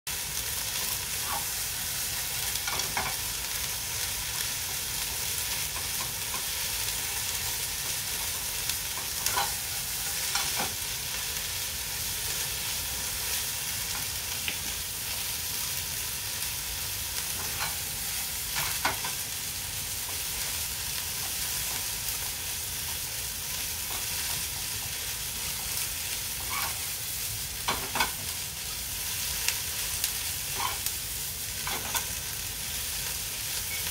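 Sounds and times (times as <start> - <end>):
food sizzling in a frying pan: 0.1 - 33.9.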